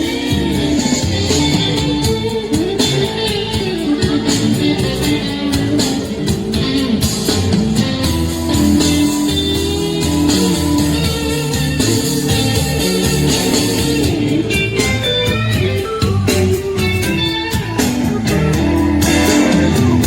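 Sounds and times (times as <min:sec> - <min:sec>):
rock music through portable speaker: 0:00.0 - 0:20.0.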